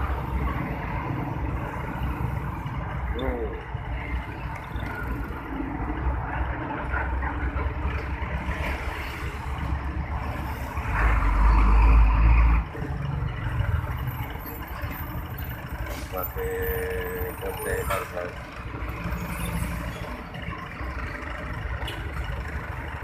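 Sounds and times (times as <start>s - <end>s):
diesel truck engines: 0.0s - 23.0s.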